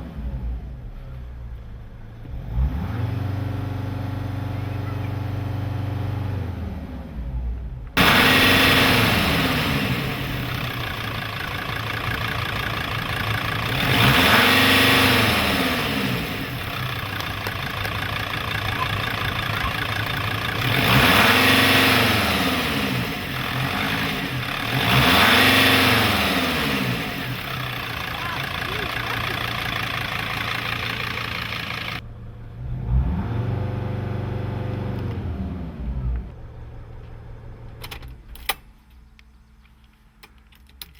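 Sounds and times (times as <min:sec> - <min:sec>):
diesel engine revving: 0:02.1 - 0:36.8.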